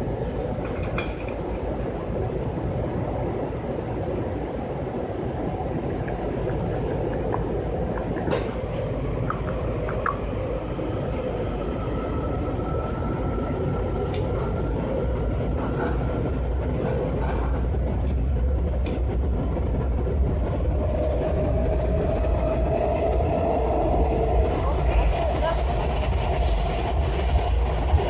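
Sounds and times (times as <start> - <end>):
subway wheels rumbling on track: 0.0 - 28.0.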